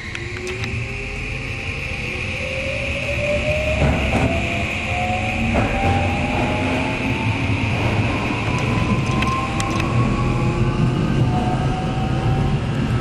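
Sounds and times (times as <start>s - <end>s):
subway train whine rising: 0.0s - 13.0s
wheels rumbling on rail: 0.0s - 13.0s.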